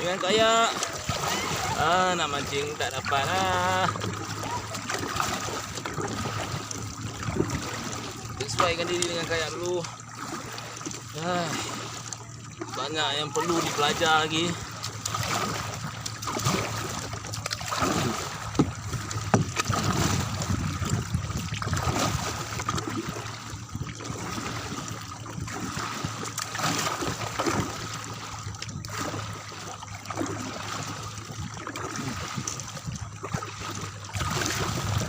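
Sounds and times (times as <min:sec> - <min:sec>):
kayak paddle splashing water: 0:00.0 - 0:35.0
water trickling: 0:00.0 - 0:35.0.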